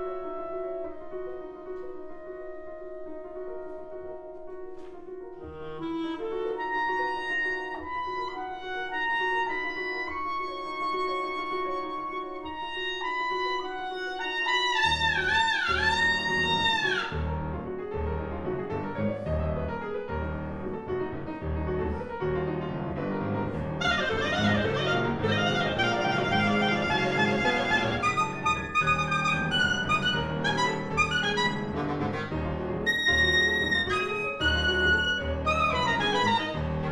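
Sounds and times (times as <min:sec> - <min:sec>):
clarinet: 0:00.0 - 0:36.9
piano low repeated pattern: 0:00.0 - 0:36.9.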